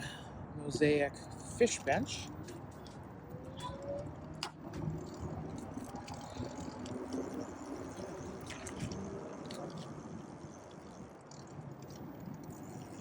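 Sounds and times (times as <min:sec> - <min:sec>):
e-bike rumbling: 0:01.2 - 0:13.0.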